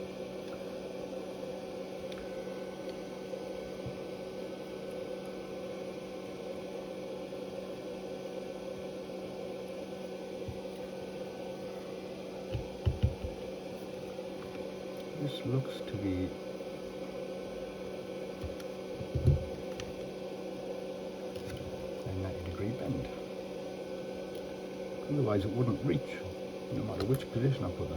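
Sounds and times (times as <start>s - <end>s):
electrical hum with fan hiss: 0.0s - 27.9s.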